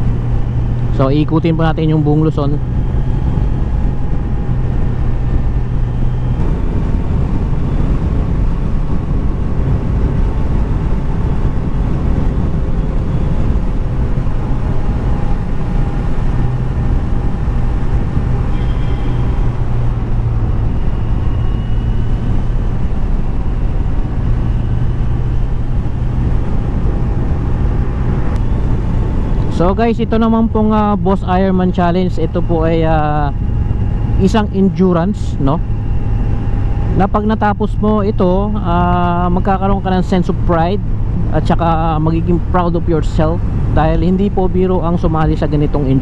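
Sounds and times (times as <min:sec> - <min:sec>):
road and wind noise: 0:00.0 - 0:46.0
vehicle engine humming: 0:00.0 - 0:46.0.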